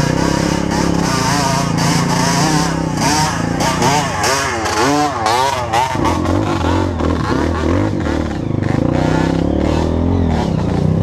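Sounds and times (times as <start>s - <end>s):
dirt bike engine revving: 0.0s - 11.0s
dirt bike engine running low: 0.0s - 11.0s.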